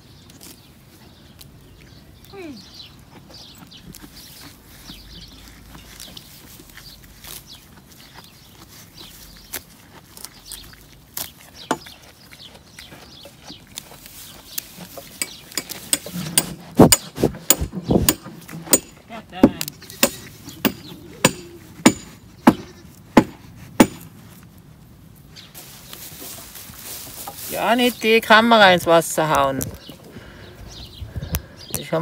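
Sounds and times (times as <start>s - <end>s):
goats cropping and chewing grass: 0.0s - 32.0s.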